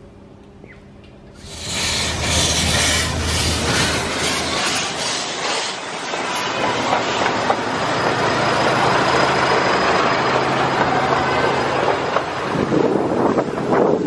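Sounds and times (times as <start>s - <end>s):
diesel locomotive engine drone: 0.0s - 14.0s
wheels rumbling on track: 1.4s - 14.0s.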